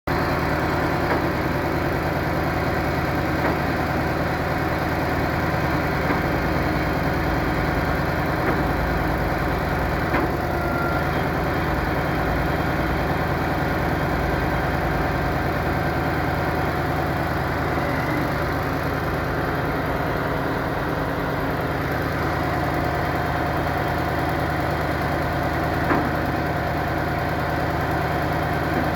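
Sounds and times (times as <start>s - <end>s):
truck engine idling: 0.1s - 28.9s.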